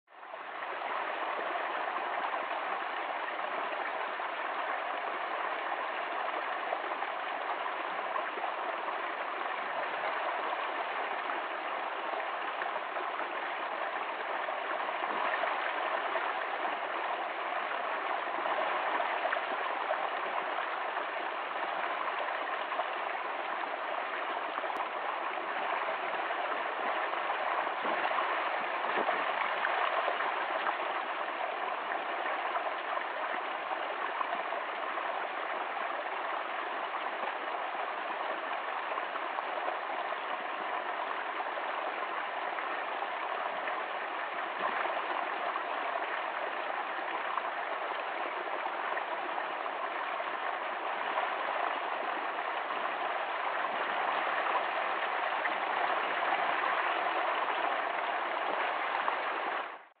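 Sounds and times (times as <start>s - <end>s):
stream water splashing: 0.1s - 59.9s.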